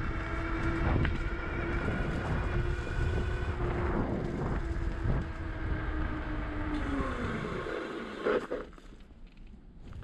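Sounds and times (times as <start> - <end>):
electric motor whining: 0.0 - 8.6
wind: 0.0 - 10.0.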